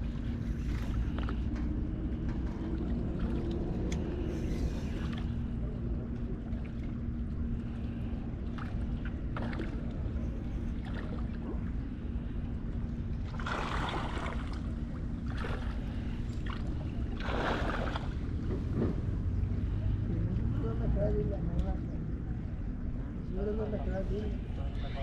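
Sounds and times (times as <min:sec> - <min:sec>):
low rumble: 0:00.0 - 0:23.3
constant low hum: 0:00.0 - 0:25.0.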